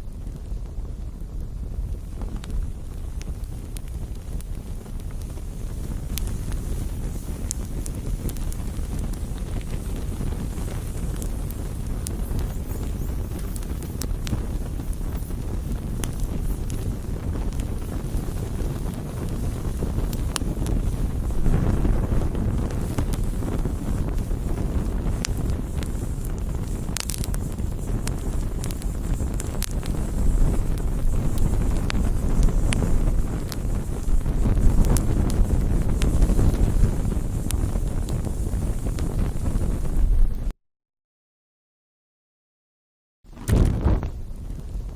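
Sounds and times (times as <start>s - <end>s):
low rush of flames: 0.0s - 40.5s, 43.3s - 44.9s
wood crackling and popping: 0.0s - 40.5s, 43.3s - 44.9s.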